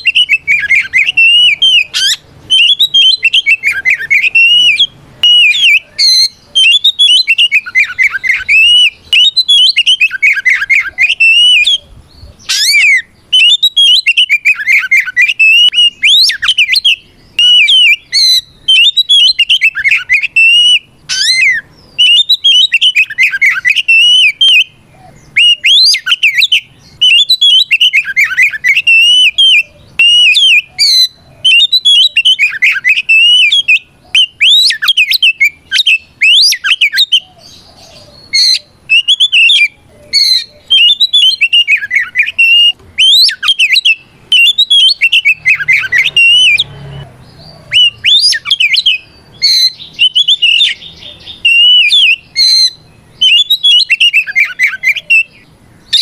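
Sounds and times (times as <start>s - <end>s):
bird singing whistled phrases: 0.0s - 56.0s
harsh bird notes: 0.0s - 56.0s.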